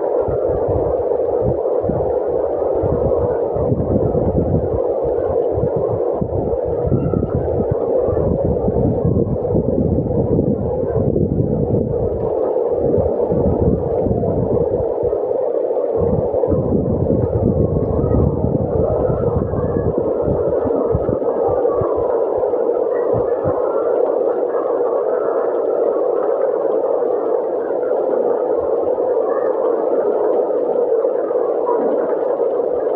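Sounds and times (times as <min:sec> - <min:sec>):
heavy rain: 0:00.0 - 0:32.9
strong wind: 0:00.0 - 0:32.9
wind buffeting microphone: 0:00.0 - 0:32.9.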